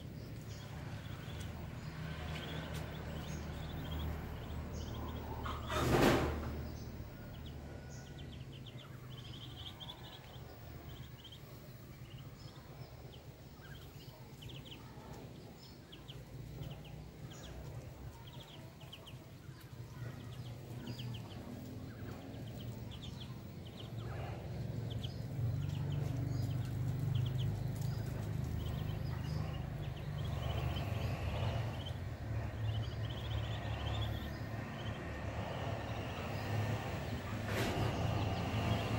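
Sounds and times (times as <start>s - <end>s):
ducklings peeping: 0.0s - 38.9s
low hum: 0.0s - 38.9s.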